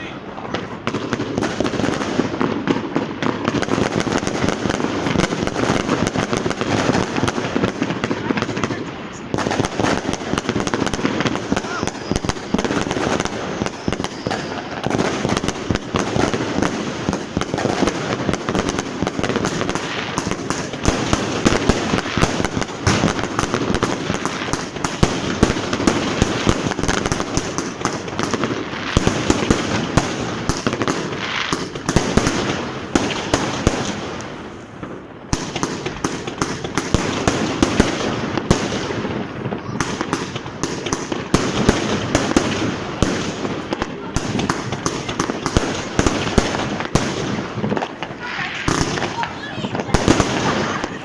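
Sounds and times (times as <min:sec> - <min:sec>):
fireworks and firecrackers crackling: 0:00.0 - 0:51.0.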